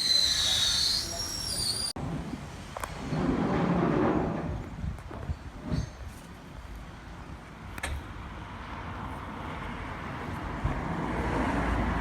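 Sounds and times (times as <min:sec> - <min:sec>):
vehicle rumble: 0:00.2 - 0:12.0.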